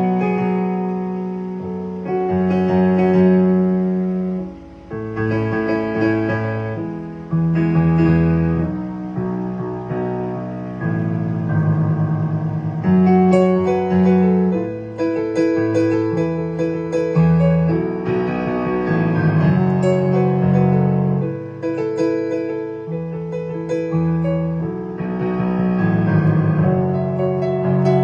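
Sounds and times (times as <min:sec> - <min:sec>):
solo piano playing: 0:00.0 - 0:28.0.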